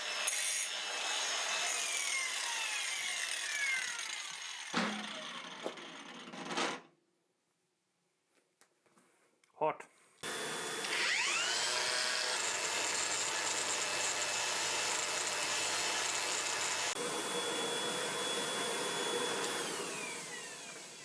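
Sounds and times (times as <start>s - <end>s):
electric grinder whine: 0.0s - 6.4s, 10.2s - 21.0s.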